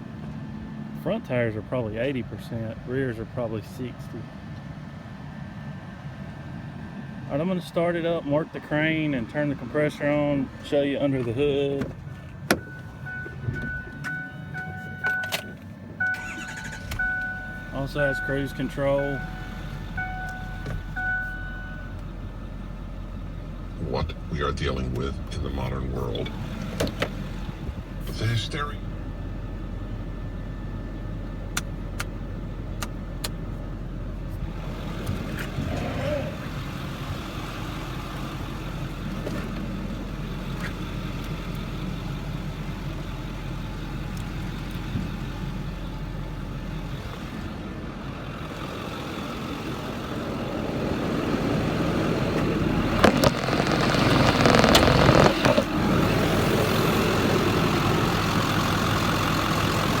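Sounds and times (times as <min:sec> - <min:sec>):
diesel engine idling: 0:00.0 - 1:00.0.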